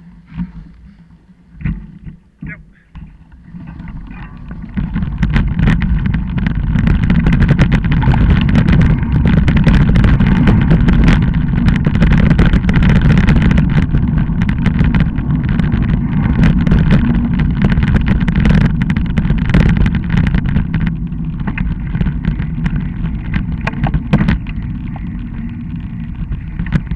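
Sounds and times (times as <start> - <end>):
bicycle rumbling on dirt trail: 0.0 - 26.9
rattling clicks and knocks: 3.0 - 26.9.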